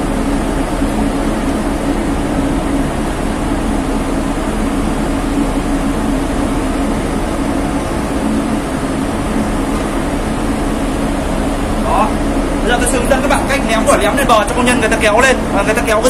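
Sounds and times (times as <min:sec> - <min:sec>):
ship machinery droning: 0:00.0 - 0:16.0.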